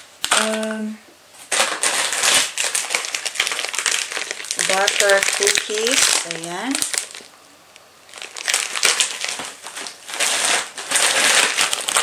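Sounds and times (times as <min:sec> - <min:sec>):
snack packaging crinkling: 0:01.4 - 0:12.0.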